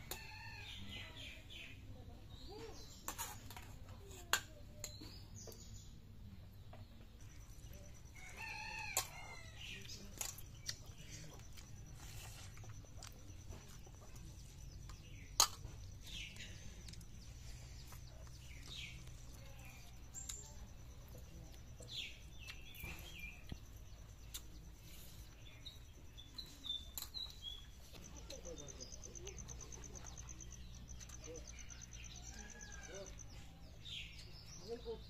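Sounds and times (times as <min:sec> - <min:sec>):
bird calls and chirps: 0:04.8 - 0:35.0.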